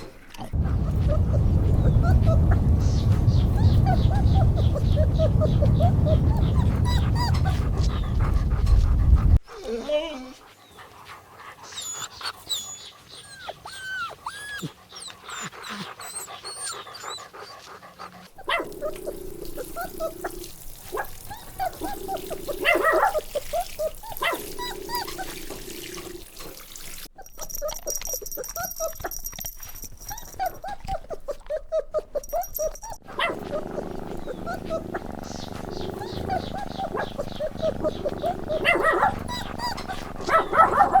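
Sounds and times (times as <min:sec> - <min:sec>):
puppies whimpering and yipping: 0:00.0 - 0:09.4, 0:11.6 - 0:25.6, 0:27.2 - 0:41.0.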